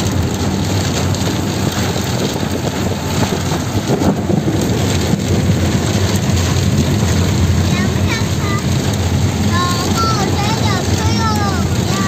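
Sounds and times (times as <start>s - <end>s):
car engine and tyres rumbling: 0.0s - 12.0s
wind noise: 0.0s - 12.0s.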